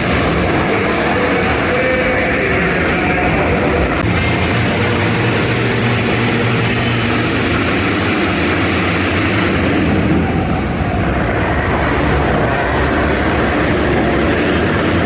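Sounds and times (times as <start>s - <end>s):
dirt bike engines racing: 0.0s - 15.0s.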